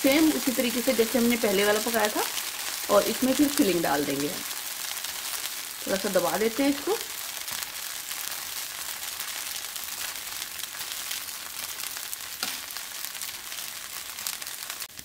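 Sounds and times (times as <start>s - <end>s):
oil sizzling on a griddle: 0.0s - 15.0s.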